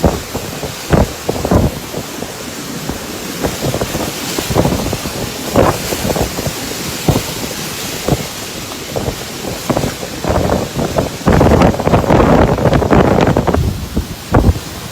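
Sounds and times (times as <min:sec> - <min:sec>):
strong wind gusts: 0:00.0 - 0:14.9
wind buffeting the microphone: 0:00.0 - 0:14.9.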